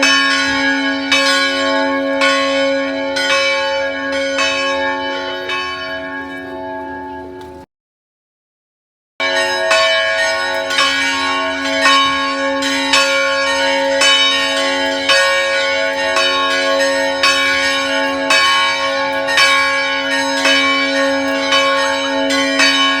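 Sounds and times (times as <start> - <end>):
church bells ringing: 0.0 - 7.7, 9.2 - 23.0.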